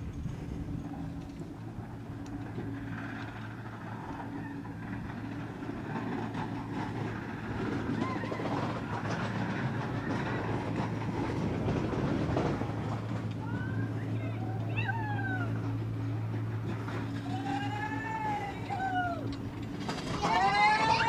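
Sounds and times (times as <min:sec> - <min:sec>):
chairlift rattling and clattering: 0:00.0 - 0:21.0
steady low hum: 0:00.0 - 0:21.0.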